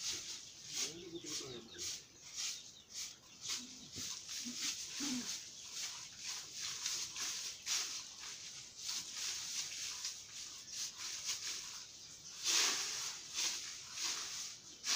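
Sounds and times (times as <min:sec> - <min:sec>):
broom sweeping dirt ground: 0:00.0 - 0:14.9.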